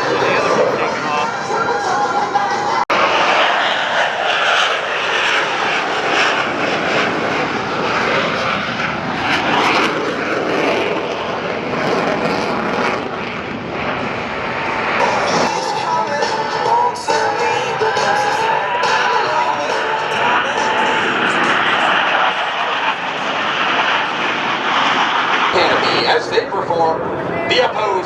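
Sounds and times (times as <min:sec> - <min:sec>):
loud jet noise: 0:00.0 - 0:28.0.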